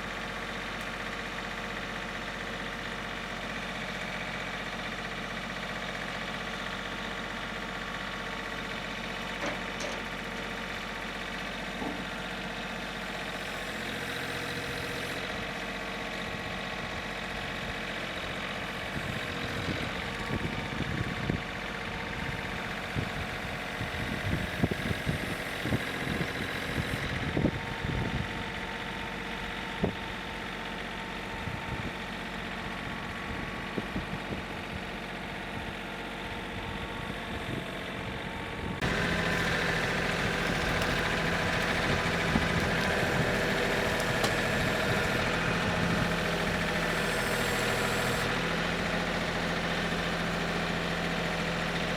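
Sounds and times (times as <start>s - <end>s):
engine idling: 0.0s - 51.9s.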